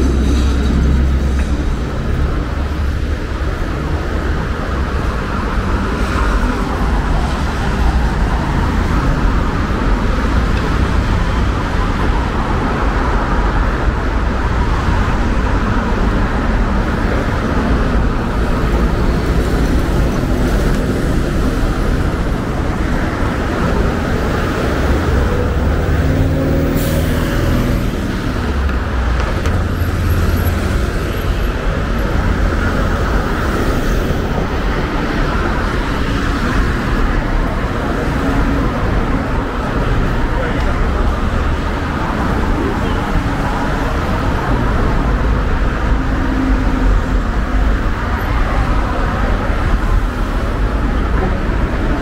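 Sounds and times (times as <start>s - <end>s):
rumble of passing traffic: 0.0s - 52.0s.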